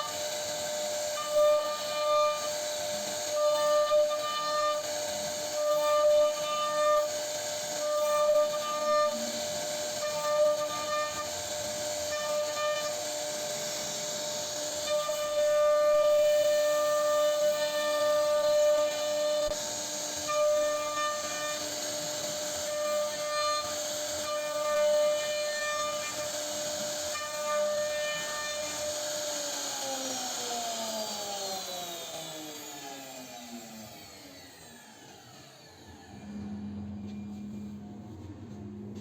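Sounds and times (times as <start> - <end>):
bit cutting wood: 0.0 - 36.2
router spindle whining: 0.0 - 39.0.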